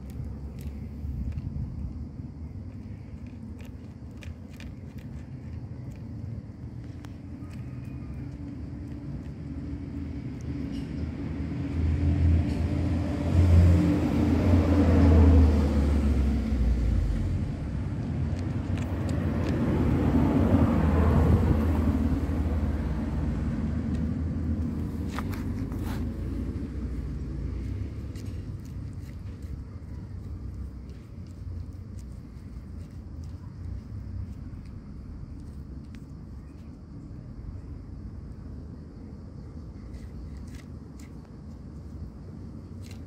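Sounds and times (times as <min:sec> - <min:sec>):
traffic engines rumbling: 0:00.0 - 0:43.0.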